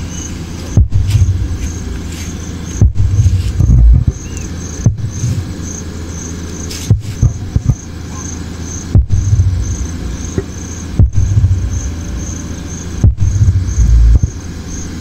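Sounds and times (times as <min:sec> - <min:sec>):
deep throbbing bass from subwoofers: 0:00.0 - 0:15.0.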